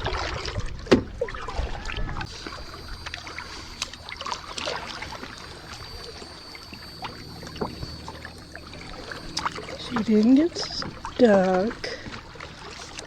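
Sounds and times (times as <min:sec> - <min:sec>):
kayak paddle dipping: 0:00.0 - 0:13.0.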